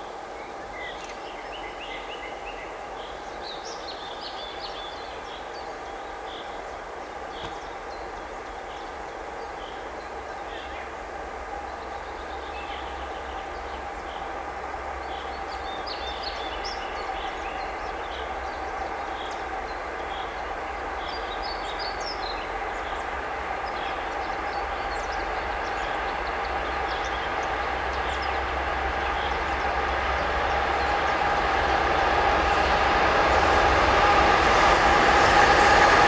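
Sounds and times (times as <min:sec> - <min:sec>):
electric train passing: 0:00.0 - 0:36.0.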